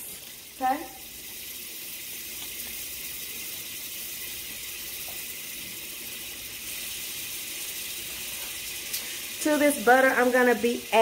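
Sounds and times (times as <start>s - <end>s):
butter sizzling in hot oil: 0.0s - 11.0s.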